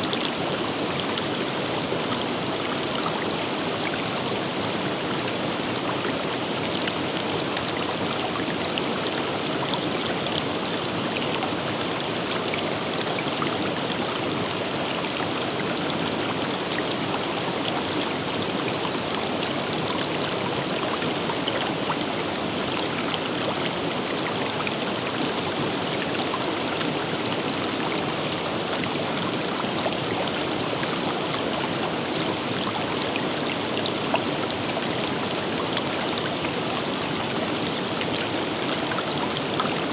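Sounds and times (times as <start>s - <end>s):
river water rushing over rocks: 0.0s - 39.9s
water splashes and trickles: 0.0s - 39.9s.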